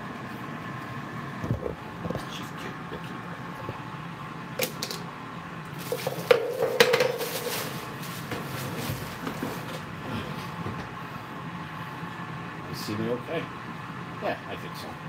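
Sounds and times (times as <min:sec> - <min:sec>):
air fryer humming: 0:00.0 - 0:15.0.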